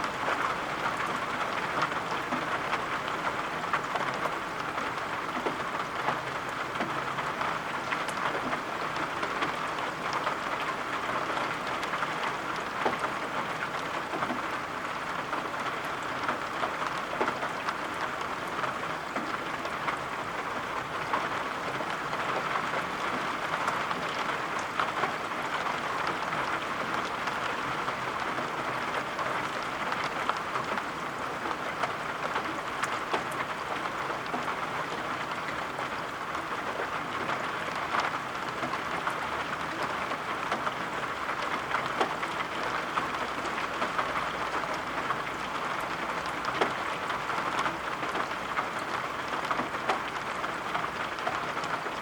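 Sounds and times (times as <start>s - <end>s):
steady rain hiss: 0.0s - 52.0s
sharp taps of raindrops: 0.9s - 14.4s, 15.1s - 20.1s, 20.8s - 51.9s.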